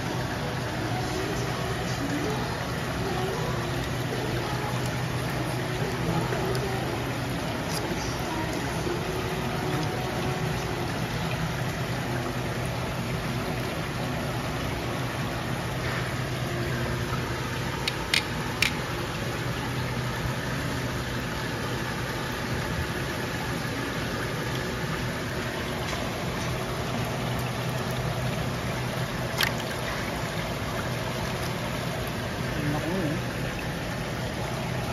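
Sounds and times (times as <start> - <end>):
low steady hum: 0.0 - 34.9
water pouring and splashing: 0.0 - 34.9.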